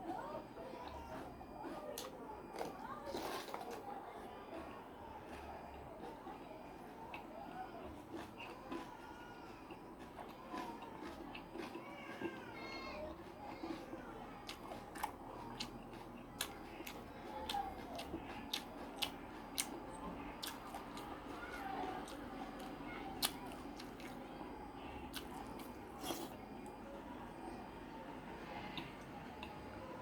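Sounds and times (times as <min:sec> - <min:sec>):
chewing and eating: 0:00.0 - 0:30.0.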